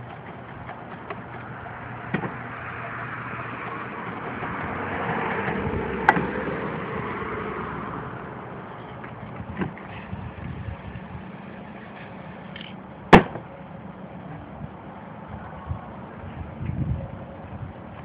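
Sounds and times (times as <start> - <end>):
road vehicle passing by: 0.0 - 18.0.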